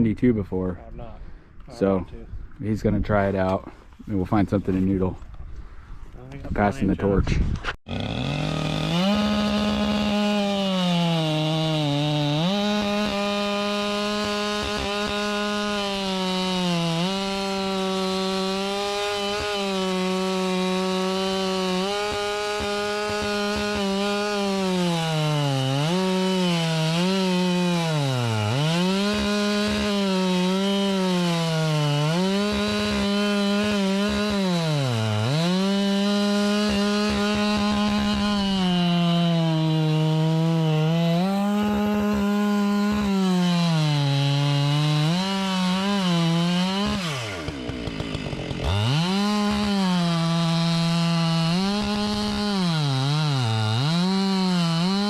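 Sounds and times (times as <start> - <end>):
chainsaw cutting through log: 7.9 - 55.0.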